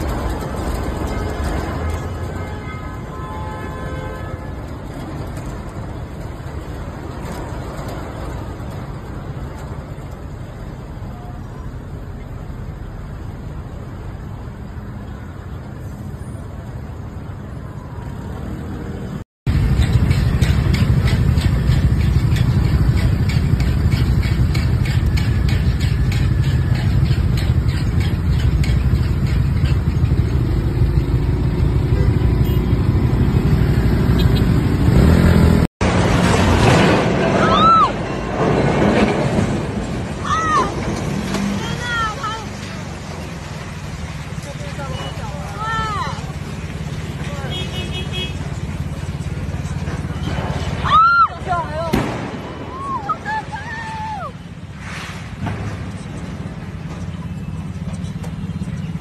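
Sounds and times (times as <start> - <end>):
scooter and car engines idling: 0.0 - 15.8, 19.5 - 35.7, 39.6 - 54.8, 55.4 - 59.0
street traffic hum: 0.0 - 59.0
wind: 0.0 - 59.0.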